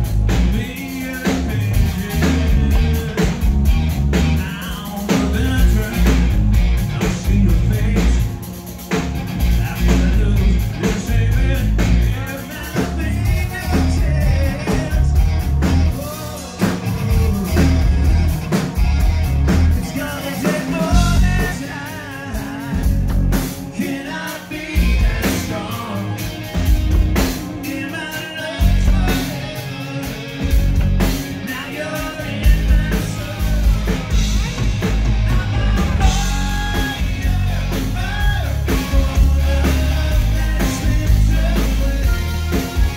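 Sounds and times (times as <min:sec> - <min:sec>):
bass guitar: 0:00.0 - 0:42.9
drum kit: 0:00.0 - 0:42.9
electric guitar: 0:00.0 - 0:42.9
keyboards: 0:00.0 - 0:42.9
man singing: 0:00.3 - 0:08.4, 0:09.4 - 0:18.8, 0:19.4 - 0:42.9.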